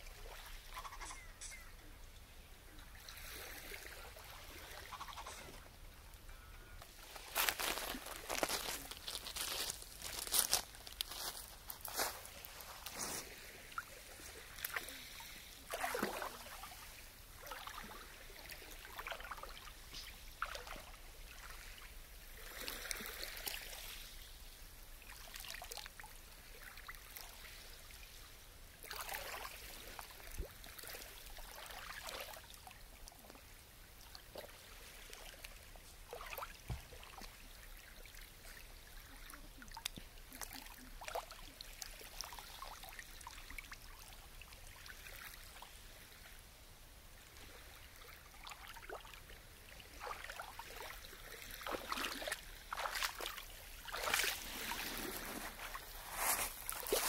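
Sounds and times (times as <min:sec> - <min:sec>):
water splashing and dribbling: 0:00.0 - 0:01.8, 0:02.7 - 0:57.0.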